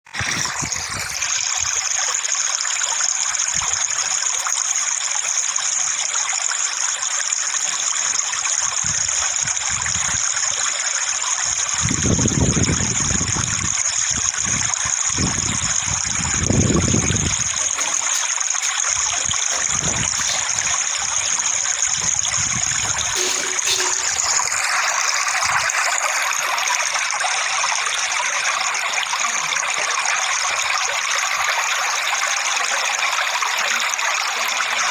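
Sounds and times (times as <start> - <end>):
running water like a stream: 0.0 - 34.9.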